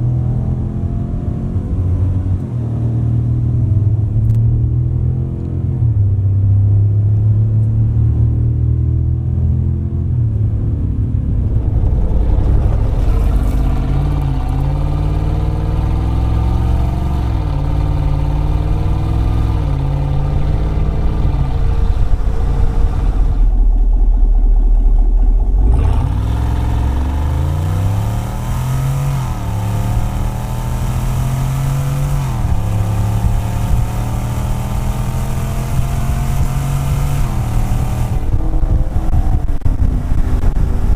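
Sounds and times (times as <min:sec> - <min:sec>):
deep exhaust rumble: 0:00.0 - 0:40.9
truck engine accelerating through gears: 0:00.0 - 0:40.9.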